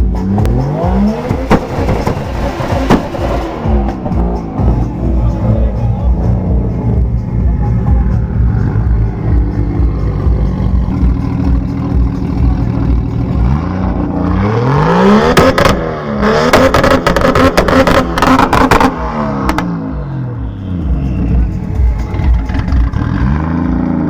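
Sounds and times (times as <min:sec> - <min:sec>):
car engine idling and revving: 0:00.0 - 0:24.0
exhaust cracks: 0:00.3 - 0:20.0, 0:21.0 - 0:24.0.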